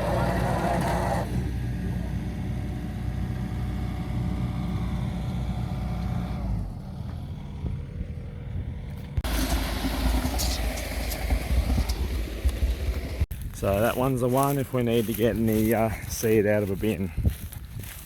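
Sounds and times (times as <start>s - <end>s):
rough noisy rumble: 0.0s - 15.8s
combine harvester engine running: 0.0s - 18.0s.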